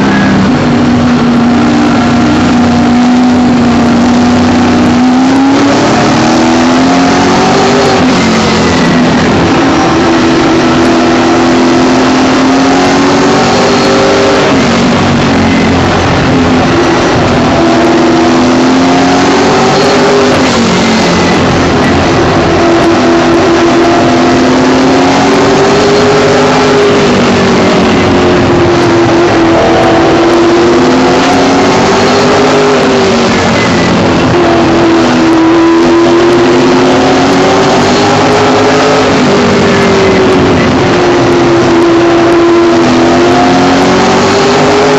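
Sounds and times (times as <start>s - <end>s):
race car engine running hard: 0.0s - 44.9s.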